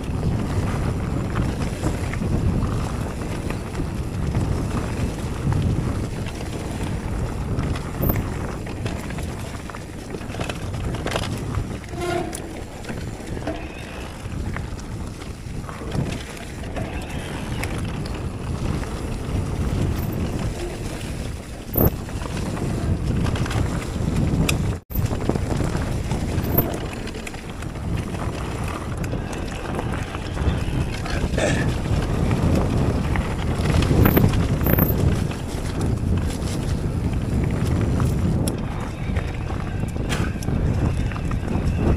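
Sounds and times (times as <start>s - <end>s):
bike rattling: 0.0s - 41.9s
tyres rumbling on dirt trail: 0.0s - 41.9s
wind buffeting microphone: 0.0s - 41.9s.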